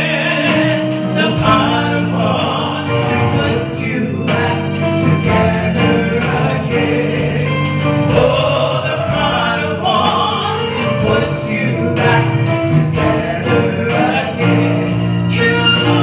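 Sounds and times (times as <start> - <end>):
bass and keyboard: 0.0 - 16.0
choir singing together: 0.0 - 16.0
steady drum beat: 0.0 - 16.0.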